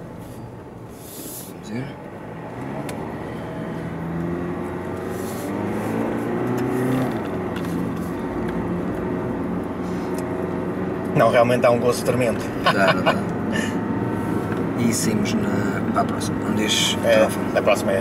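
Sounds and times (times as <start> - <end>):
car engine accelerating: 1.6 - 18.0.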